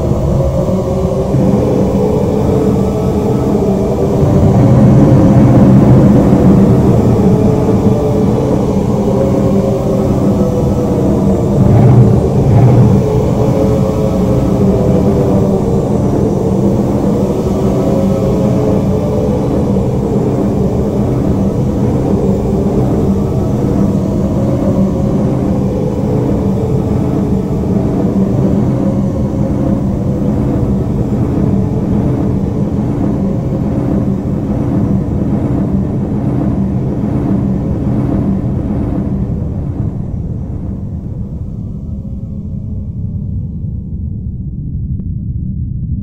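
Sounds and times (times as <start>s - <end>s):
low droning rumble: 0.0s - 46.0s.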